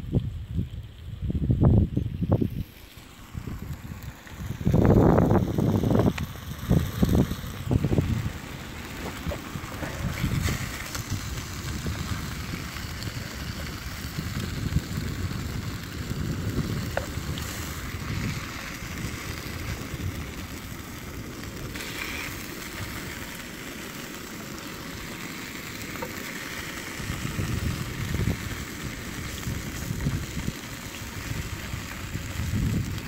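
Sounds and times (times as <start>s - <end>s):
wind on microphone: 0.0s - 23.4s, 25.9s - 33.0s
bacon sizzling in a frying pan: 1.7s - 33.0s.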